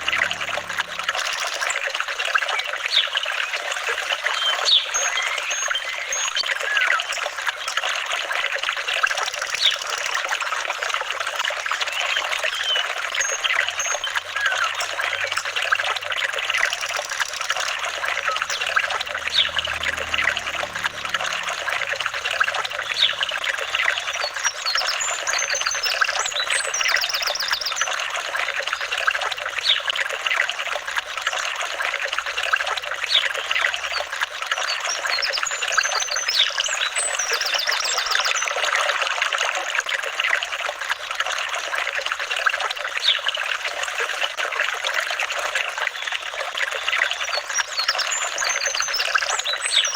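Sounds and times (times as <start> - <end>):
water trickling: 0.0 - 49.9.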